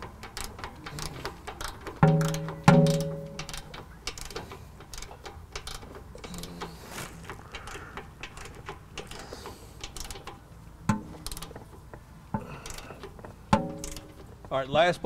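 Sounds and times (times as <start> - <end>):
ratchet wrench clicking: 0.0 - 14.3.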